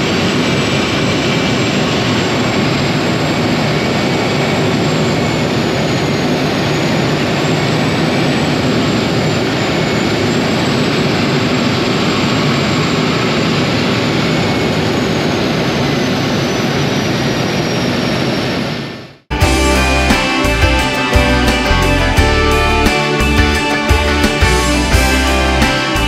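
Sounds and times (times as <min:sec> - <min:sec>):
propeller engine drone: 0:00.0 - 0:26.0.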